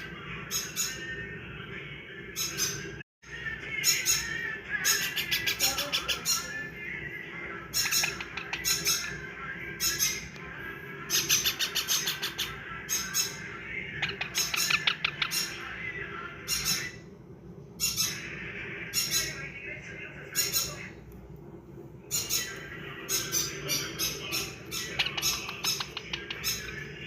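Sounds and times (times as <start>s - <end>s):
parakeet chicks squawking: 0.0s - 1.4s, 2.2s - 17.1s, 17.8s - 19.6s, 20.2s - 21.0s, 22.0s - 27.0s.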